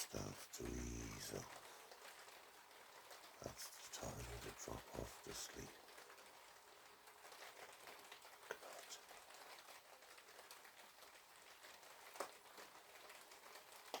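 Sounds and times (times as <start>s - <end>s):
light rain on a patio: 0.0s - 14.0s.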